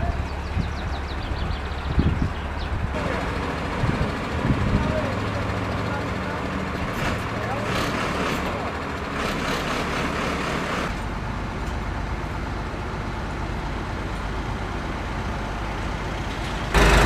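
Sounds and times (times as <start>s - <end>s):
heavy vehicle engine rumbling: 0.0s - 17.0s
road noise: 0.0s - 17.0s.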